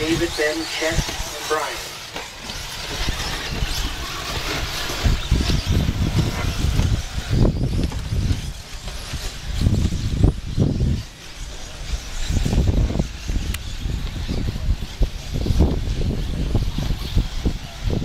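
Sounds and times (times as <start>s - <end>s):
electric rc cars running: 0.0s - 18.0s
wind rumble on microphone: 0.0s - 18.0s.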